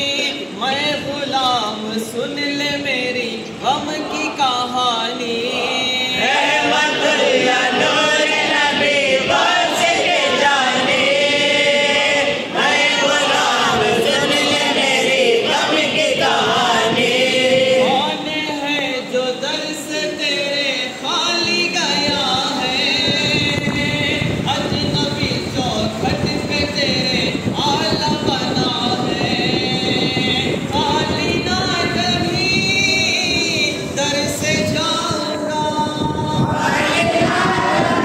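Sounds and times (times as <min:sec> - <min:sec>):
man singing into microphone: 0:00.0 - 0:07.4, 0:11.6 - 0:38.0
men singing together: 0:00.0 - 0:38.0.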